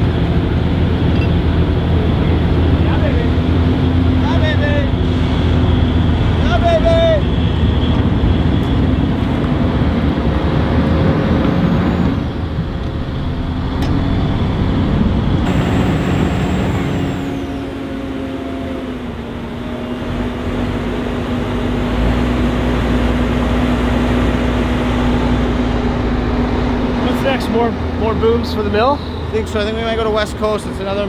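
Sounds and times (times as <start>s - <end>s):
tugboat engine running: 0.0s - 31.0s.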